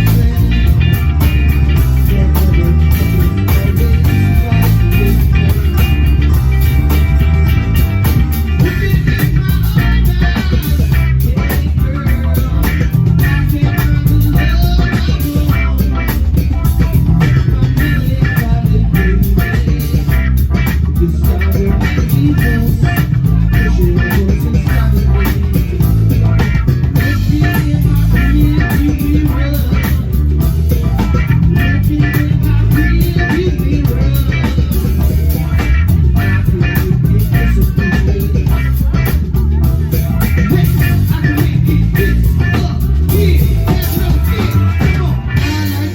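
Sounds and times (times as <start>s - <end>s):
bass guitar: 0.0s - 45.9s
drums: 0.0s - 45.9s
electric guitar: 0.0s - 45.9s.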